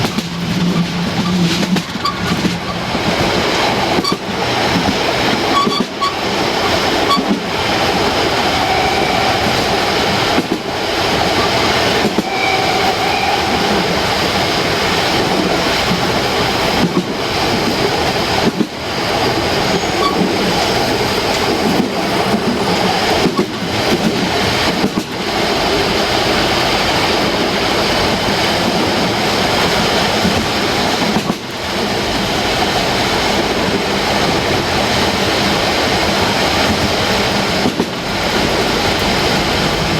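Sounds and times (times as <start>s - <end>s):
train wheels rolling on track: 0.0s - 39.9s.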